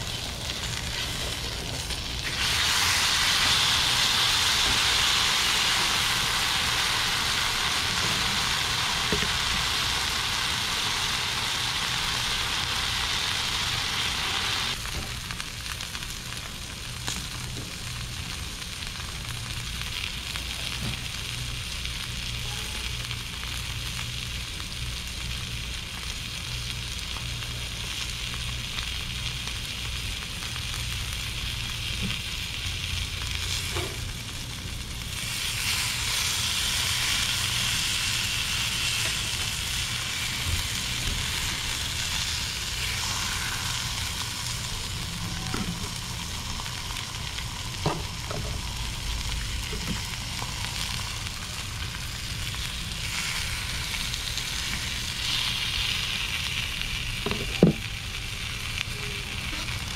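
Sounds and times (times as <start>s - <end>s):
steak sizzling on a griddle: 0.0s - 59.9s.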